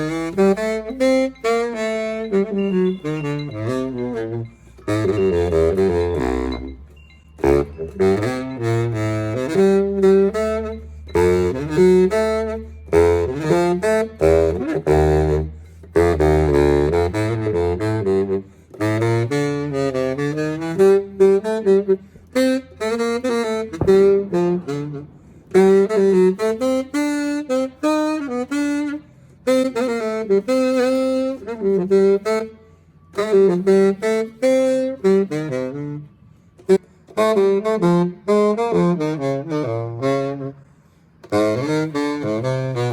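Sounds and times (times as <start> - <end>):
solo saxophone melody: 0.0 - 42.9.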